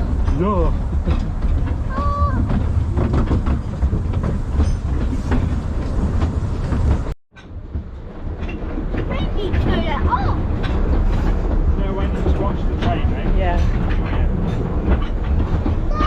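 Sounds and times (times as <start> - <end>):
steam train rumbling: 0.0 - 16.0
wheels clicking and clattering: 0.0 - 16.0.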